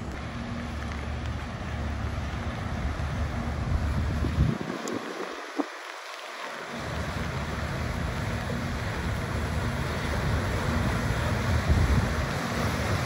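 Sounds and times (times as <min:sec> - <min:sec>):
lake water: 0:00.0 - 0:13.0
rain hiss: 0:00.0 - 0:13.0
wind buffeting microphone: 0:01.4 - 0:05.9, 0:06.8 - 0:13.0.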